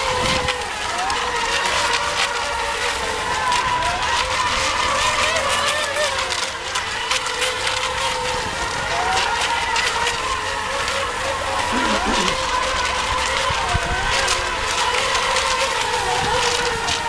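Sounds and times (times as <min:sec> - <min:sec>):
electric boat motors whining: 0:00.0 - 0:17.0.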